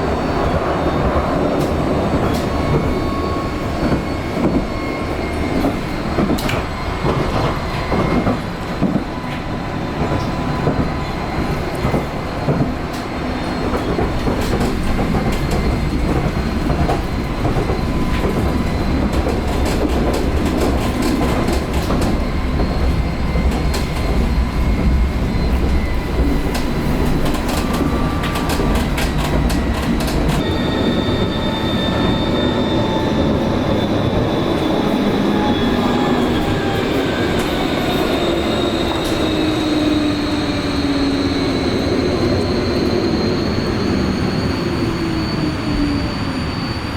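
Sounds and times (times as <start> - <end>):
tram wheels rumbling on rail: 0.0 - 46.9.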